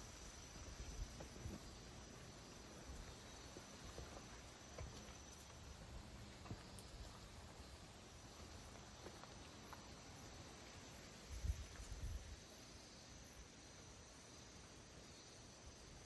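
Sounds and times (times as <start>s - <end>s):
insect chirping pulses: 0.0s - 16.0s.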